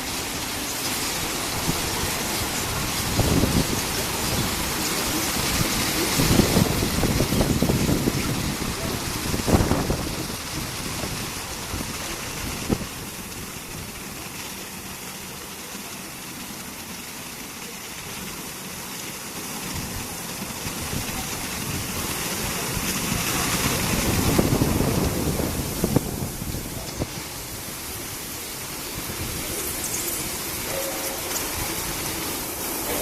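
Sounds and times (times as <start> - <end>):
car wash water spray and machinery: 0.0 - 33.0.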